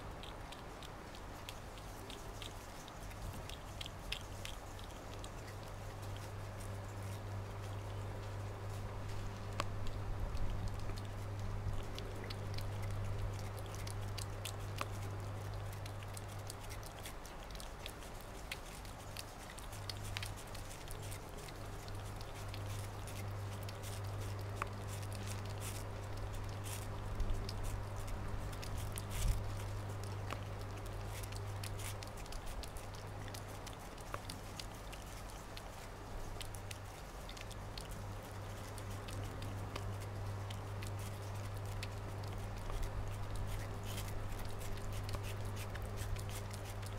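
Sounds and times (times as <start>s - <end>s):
cat chewing and licking: 0.0s - 46.9s
small wet clicks: 0.0s - 46.9s
steady low hum: 0.0s - 46.9s.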